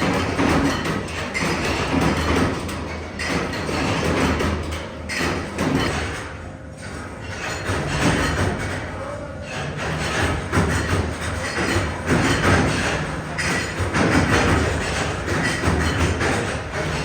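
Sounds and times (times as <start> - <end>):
machine thumps and clatter: 0.0 - 17.0
machinery humming: 0.0 - 17.0.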